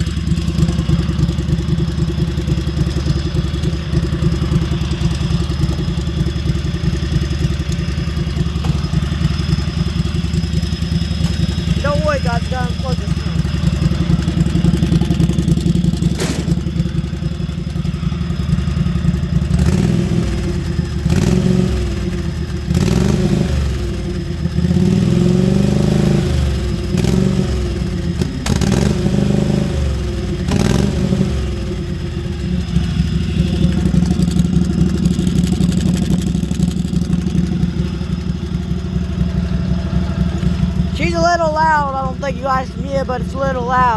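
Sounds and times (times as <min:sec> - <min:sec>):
lawn mower engine revving: 0:00.0 - 0:43.9.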